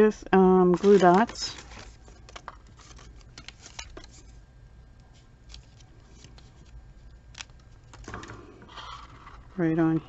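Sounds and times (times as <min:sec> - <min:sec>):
paper rustling: 0:00.6 - 0:04.4, 0:05.1 - 0:09.7.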